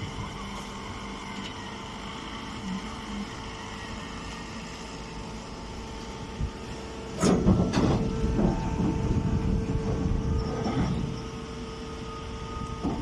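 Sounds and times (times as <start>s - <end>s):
straw baler humming: 0.0s - 13.0s.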